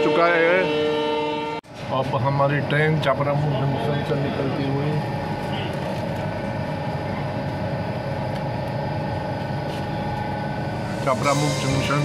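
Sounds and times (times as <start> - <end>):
constant hum: 1.7 - 12.0
train running rumble: 1.7 - 12.0.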